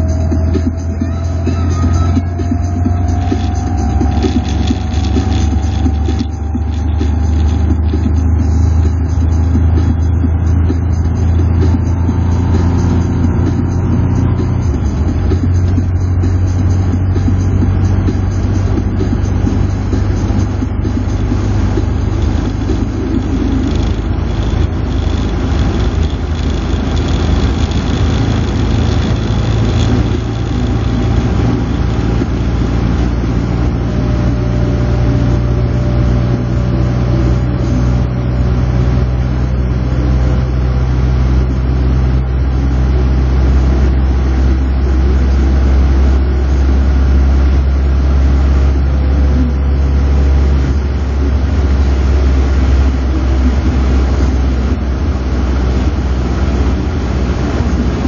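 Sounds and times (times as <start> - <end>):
car engine drone in cabin: 0.0 - 58.0
road noise: 0.0 - 58.0.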